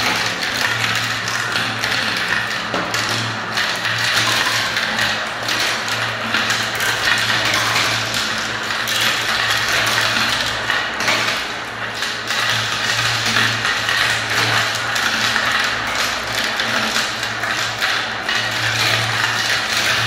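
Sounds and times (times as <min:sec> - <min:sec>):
marbles rolling and clattering: 0:00.0 - 0:20.0.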